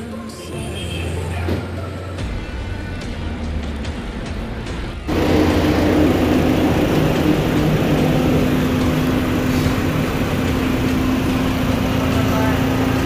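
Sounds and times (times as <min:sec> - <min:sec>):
car engine idling: 0:02.2 - 0:13.0.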